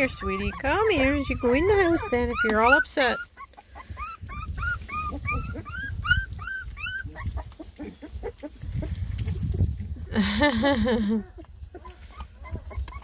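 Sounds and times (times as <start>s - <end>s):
puppy whining: 0.0s - 8.9s, 11.1s - 13.0s.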